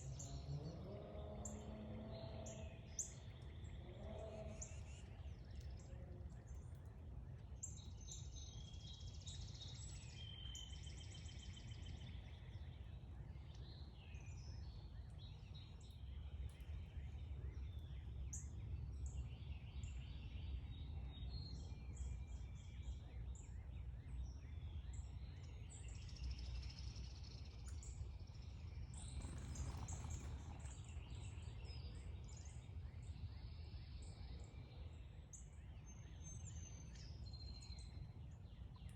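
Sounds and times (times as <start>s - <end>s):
songbirds chirping and calling: 0.0s - 38.9s
low background rumble: 1.3s - 38.9s.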